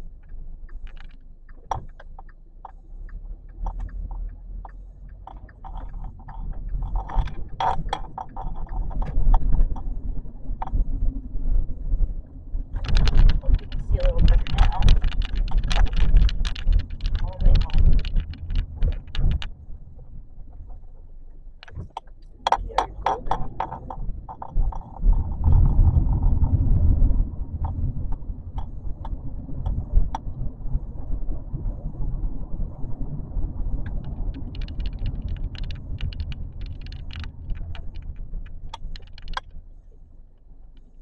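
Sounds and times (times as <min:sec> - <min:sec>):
car cabin road and engine rumble: 0:00.0 - 0:41.0
light clicks and rattles: 0:00.0 - 0:41.0.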